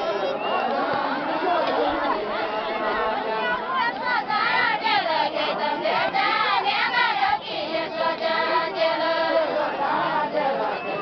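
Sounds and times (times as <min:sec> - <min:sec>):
high voices singing folk song: 0:00.0 - 0:11.0.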